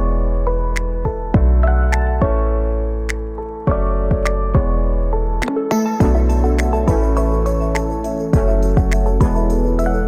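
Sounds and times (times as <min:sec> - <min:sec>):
soft electronic music: 0:00.0 - 0:10.0.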